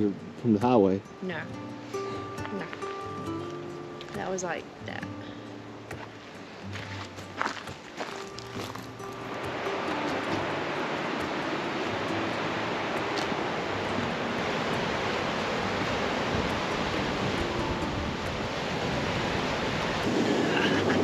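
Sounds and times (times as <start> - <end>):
river rapids rushing: 0.0 - 21.0.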